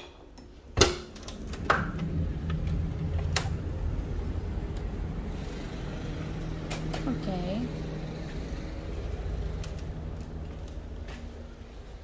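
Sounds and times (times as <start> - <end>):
constant low hum: 0.2 - 12.0
street traffic rumble: 1.1 - 12.0.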